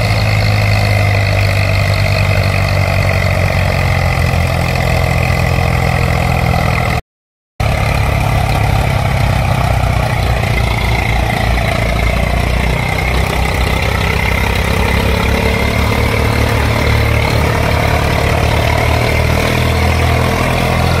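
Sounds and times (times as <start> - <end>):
tractor diesel engine running: 0.0 - 7.0, 7.6 - 21.0.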